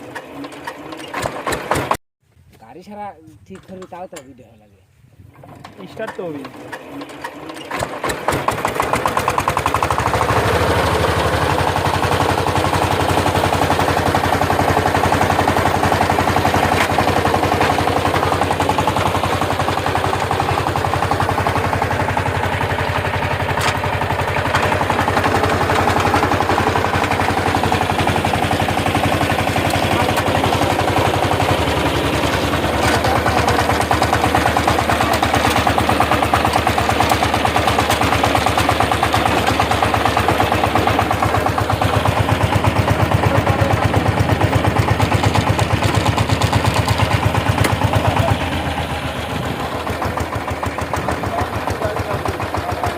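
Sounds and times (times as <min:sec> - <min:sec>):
diesel tiller engine chugging: 0:00.0 - 0:02.0, 0:05.2 - 0:52.9.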